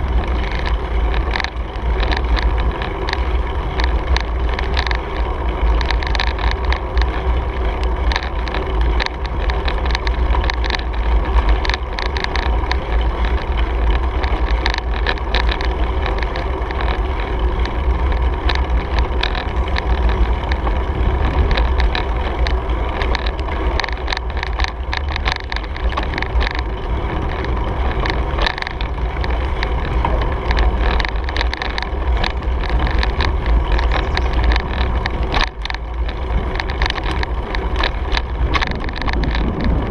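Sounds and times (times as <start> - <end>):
bicycle rattles and clicks: 0.0 - 39.9
wind buffeting microphone: 0.0 - 39.9.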